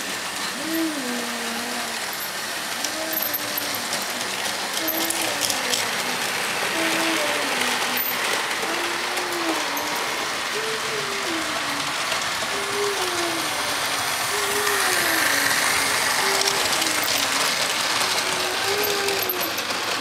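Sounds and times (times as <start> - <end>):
model train motors whirring: 0.0 - 20.0.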